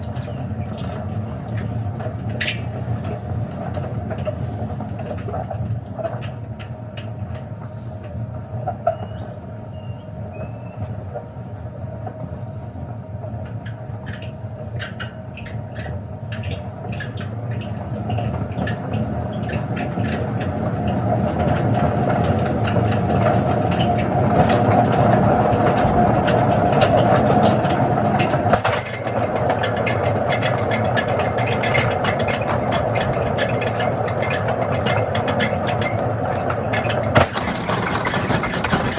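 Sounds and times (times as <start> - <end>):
washing machine humming and rattling: 0.0 - 38.9.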